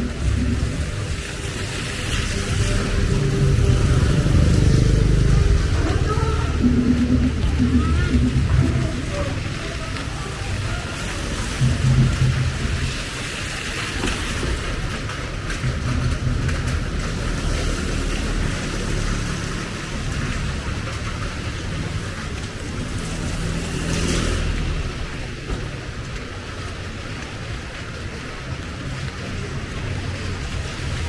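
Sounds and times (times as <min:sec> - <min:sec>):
rain hissing: 0:00.0 - 0:31.0
vehicle engine rumbling: 0:00.0 - 0:31.0.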